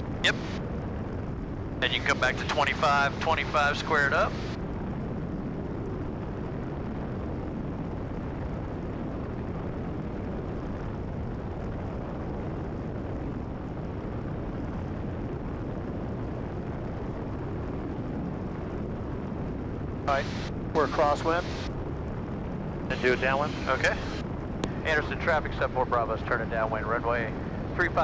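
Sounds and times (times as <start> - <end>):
light aircraft engine and propeller drone: 0.0 - 28.0.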